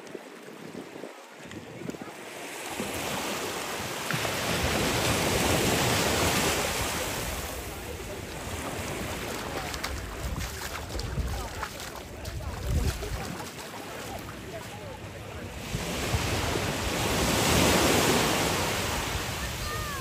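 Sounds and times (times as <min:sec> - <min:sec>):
wave washing up a beach: 0:00.0 - 0:20.0.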